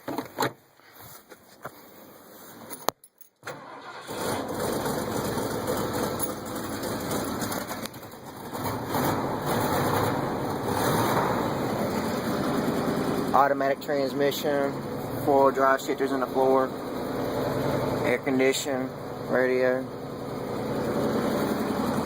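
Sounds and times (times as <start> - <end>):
truck engine starting and running: 3.4 - 22.0.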